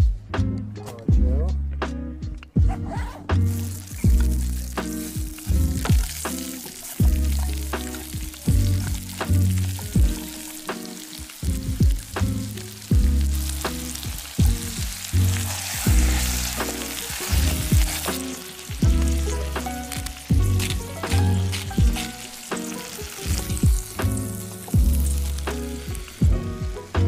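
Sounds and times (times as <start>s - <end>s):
music with beat and bass: 0.0s - 27.0s
food sizzling in a pan: 3.4s - 27.0s.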